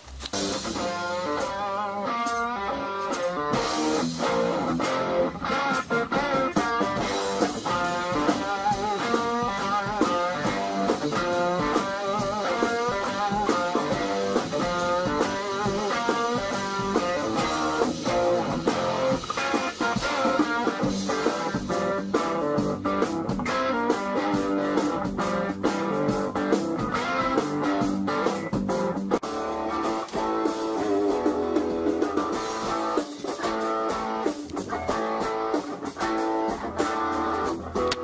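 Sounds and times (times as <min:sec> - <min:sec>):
electric guitar blues-rock lead: 0:00.0 - 0:38.0.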